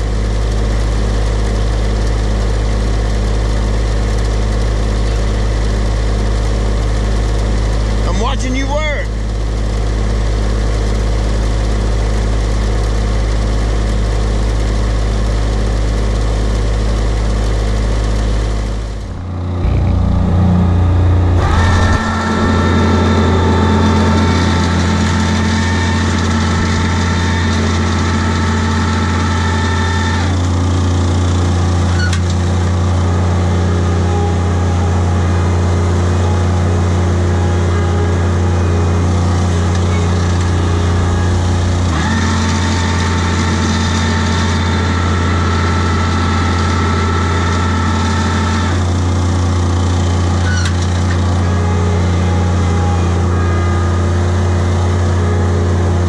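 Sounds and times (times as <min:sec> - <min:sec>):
steady high whine: 0:00.0 - 0:56.0
turf machine engine running: 0:00.0 - 0:56.0.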